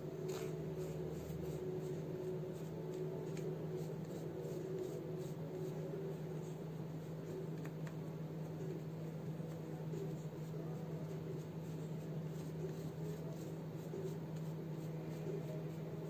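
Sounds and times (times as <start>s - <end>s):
steady low hum: 0.0s - 16.0s
paintbrush scratching on relief: 0.2s - 7.4s, 9.4s - 16.0s.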